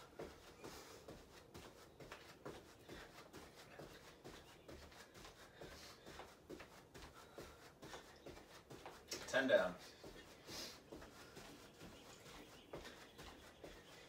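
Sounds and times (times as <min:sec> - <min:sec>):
soft thuds of feet on carpet: 0:00.0 - 0:14.0.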